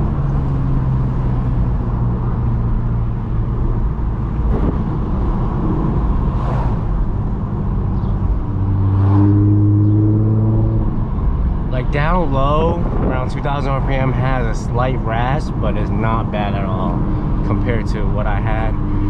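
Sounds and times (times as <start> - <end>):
car engine cruising drone: 0.0 - 19.0.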